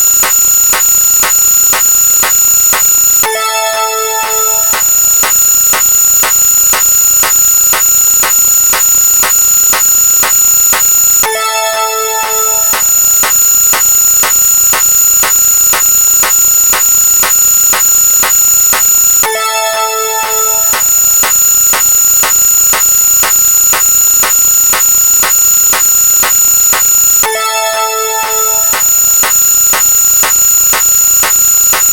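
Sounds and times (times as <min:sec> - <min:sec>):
high-pitched alarm-like tone: 0:00.0 - 0:31.9
sharp electronic clicks: 0:00.0 - 0:31.9.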